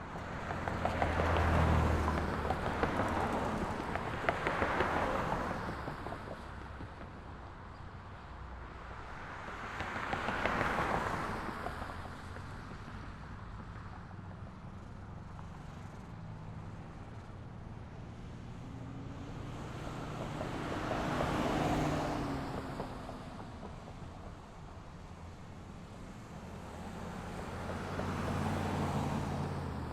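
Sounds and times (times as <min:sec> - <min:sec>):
road traffic rumble: 0:00.0 - 0:29.9.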